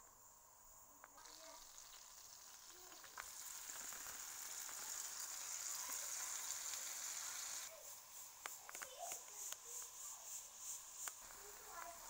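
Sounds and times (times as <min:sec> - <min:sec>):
seafood sizzling in a pan: 0:00.2 - 0:12.0.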